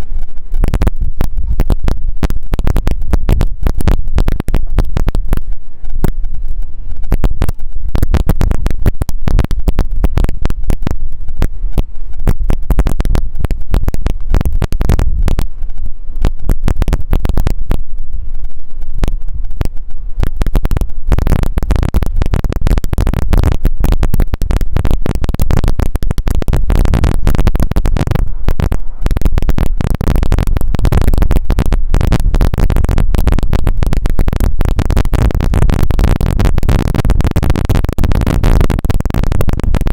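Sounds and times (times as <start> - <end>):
steady rushing noise: 0.0 - 39.9
wind buffeting microphone: 0.0 - 39.9.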